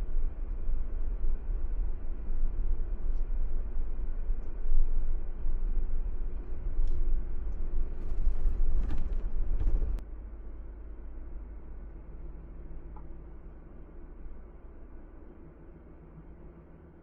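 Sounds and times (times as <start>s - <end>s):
road and wind noise of car: 0.0s - 17.0s.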